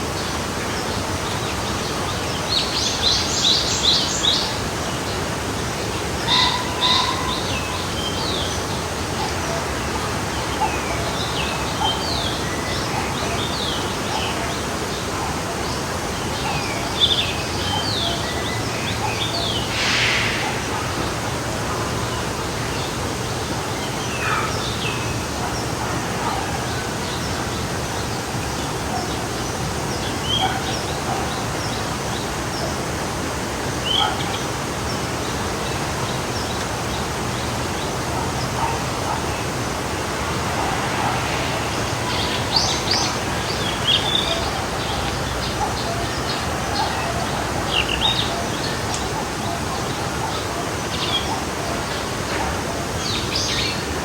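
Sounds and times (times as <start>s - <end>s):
songbirds chirping: 0.0s - 54.0s
stream rushing water: 0.0s - 54.0s.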